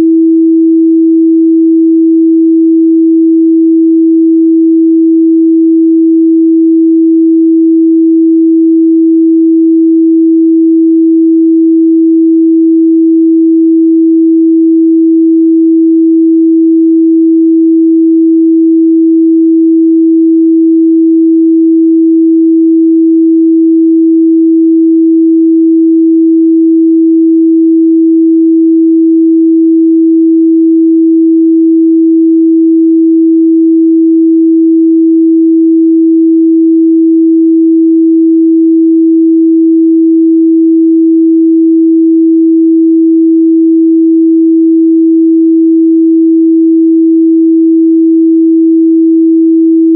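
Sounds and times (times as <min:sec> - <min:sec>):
sine-wave test tone: 0:00.0 - 0:49.9.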